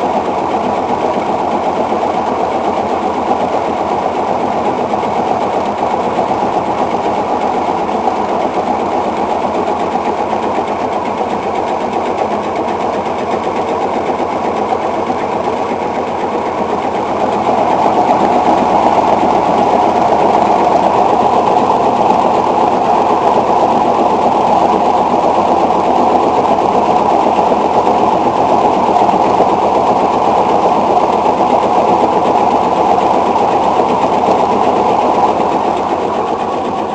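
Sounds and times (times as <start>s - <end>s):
washing machine spinning and rattling: 0.0s - 36.9s.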